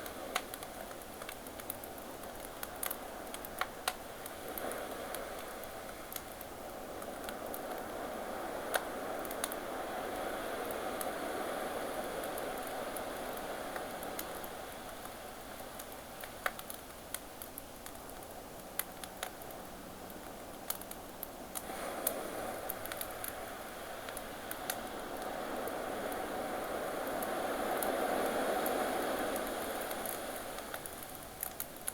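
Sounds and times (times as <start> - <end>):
campfire crackling and popping: 0.0 - 7.9, 8.7 - 9.6, 12.2 - 26.2, 28.9 - 31.9
ocean waves washing on shore: 0.0 - 31.9.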